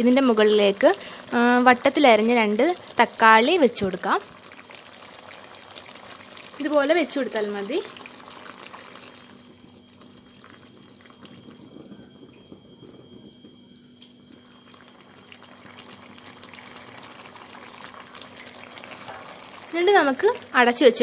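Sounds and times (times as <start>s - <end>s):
curry simmering and crackling: 0.0s - 21.0s.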